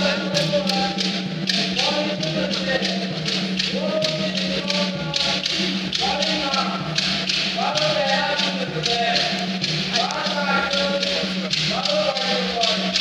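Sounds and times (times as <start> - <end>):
hand percussion beat: 0.0 - 13.0.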